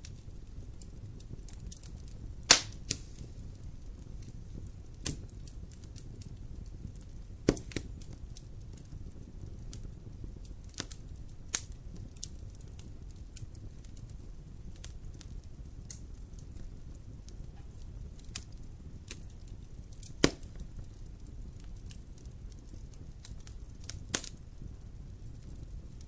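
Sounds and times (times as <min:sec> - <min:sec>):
fire crackles and pops: 0:00.0 - 0:26.0
fire rumbling in fireplace: 0:00.0 - 0:26.0.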